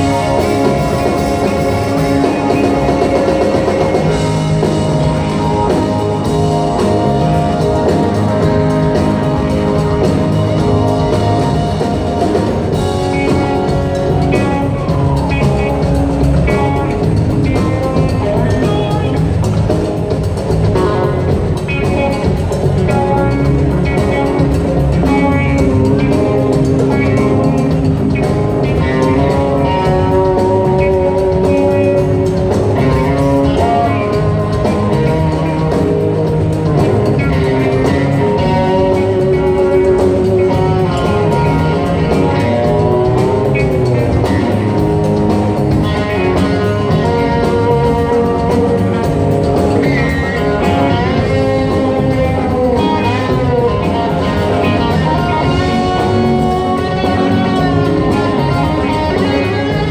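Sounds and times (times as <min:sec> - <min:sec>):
bending lead guitar notes: 0:00.0 - 0:59.9
live rock band playing: 0:00.0 - 0:59.9.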